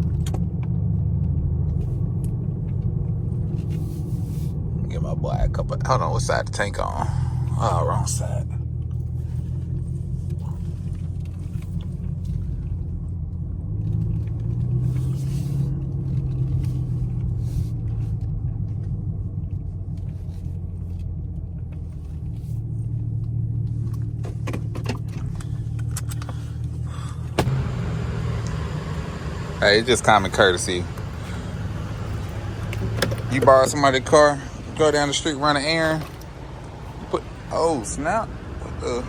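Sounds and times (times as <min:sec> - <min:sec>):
car engine exhaust rumble: 0:00.0 - 0:39.0.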